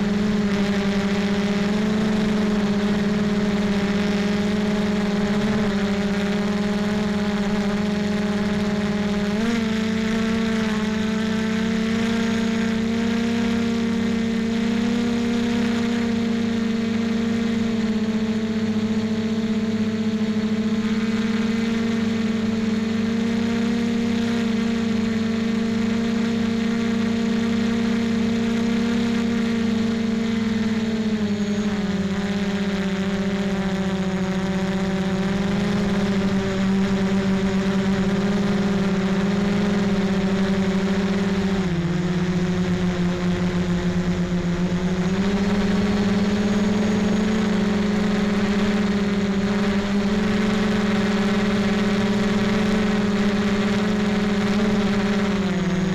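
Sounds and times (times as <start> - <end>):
model aircraft motor and propeller: 0.0 - 55.9.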